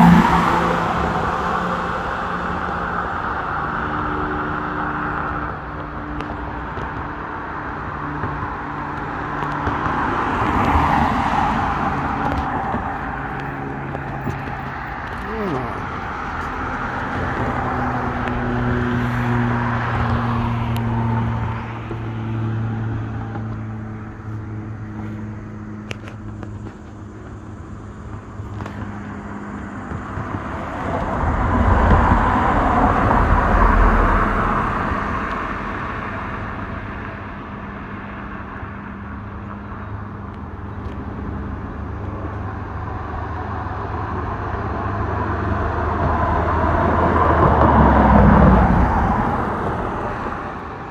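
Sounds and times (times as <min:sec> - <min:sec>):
car passing by: 0:00.0 - 0:50.9
vehicle engine hum: 0:00.0 - 0:50.9.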